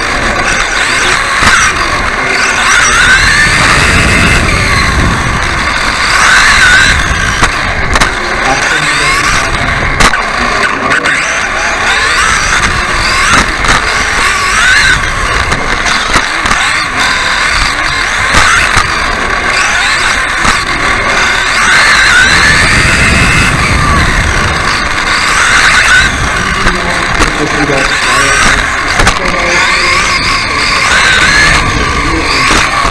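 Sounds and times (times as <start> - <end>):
chassis knocking on bumps: 0.0 - 10.3, 11.8 - 32.9
toy car motor whining: 0.0 - 32.9.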